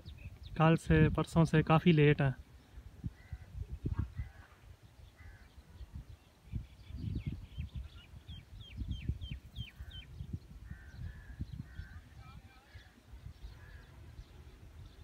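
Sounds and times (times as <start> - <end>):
birds calling: 0.0 - 15.0
wind rumbling on microphone: 0.0 - 15.0.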